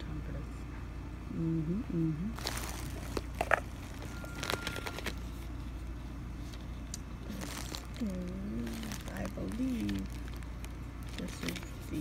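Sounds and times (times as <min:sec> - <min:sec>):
steady low hum: 0:00.0 - 0:12.0
plastic packaging crinkling: 0:02.4 - 0:12.0.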